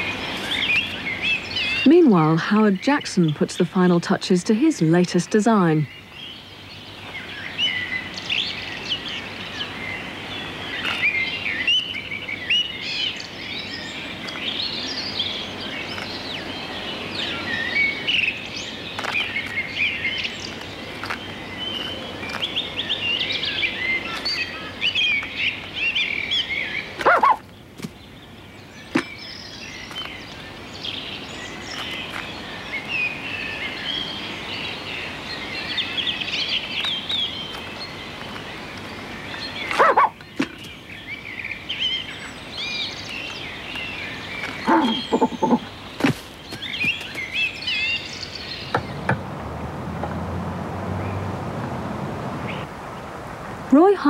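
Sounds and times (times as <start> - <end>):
small birds chirping: 0.0 - 53.2.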